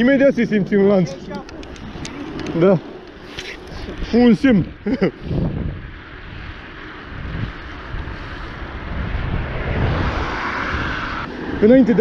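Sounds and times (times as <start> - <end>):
road rumble: 0.0 - 12.0
wind rushing over microphone: 0.0 - 12.0.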